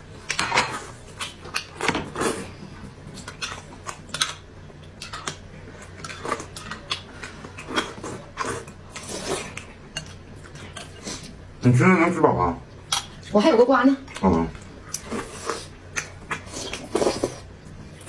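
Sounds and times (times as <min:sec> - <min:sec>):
food being chewed: 0:00.2 - 0:11.5, 0:14.0 - 0:18.0.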